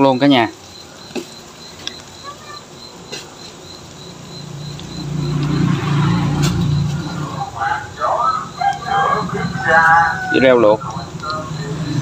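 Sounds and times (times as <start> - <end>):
high-pitched pulsing chirp: 0.0 - 12.0.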